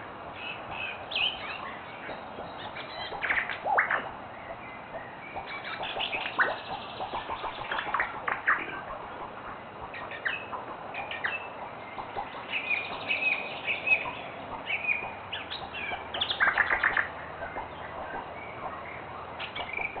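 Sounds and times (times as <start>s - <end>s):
birds chirping and whistling: 0.4s - 20.0s.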